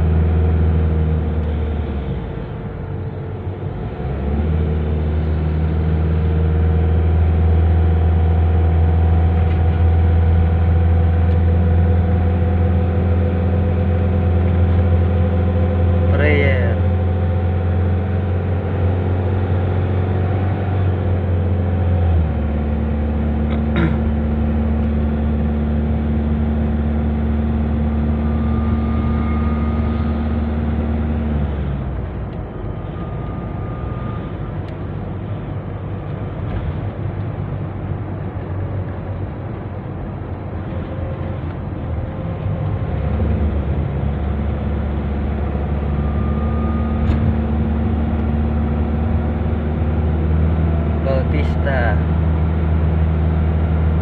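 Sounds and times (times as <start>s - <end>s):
road noise: 0.0s - 54.0s
van engine drone: 0.0s - 54.0s.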